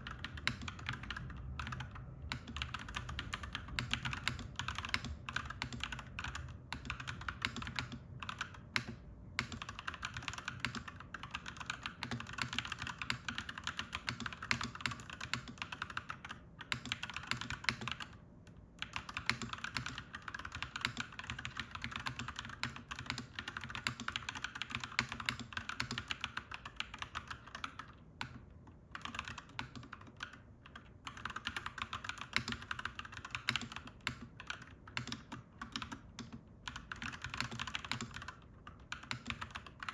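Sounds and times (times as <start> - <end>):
mechanical keyboard typing: 0.0 - 18.2, 18.8 - 39.9.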